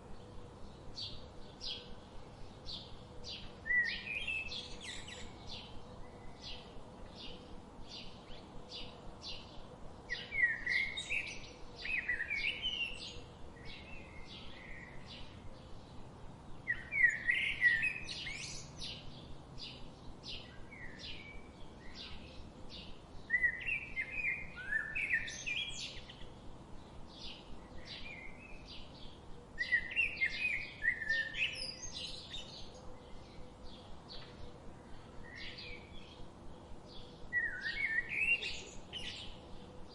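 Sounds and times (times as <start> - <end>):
songbirds chirping: 0.0 - 39.9
warbled bird song: 0.0 - 39.9.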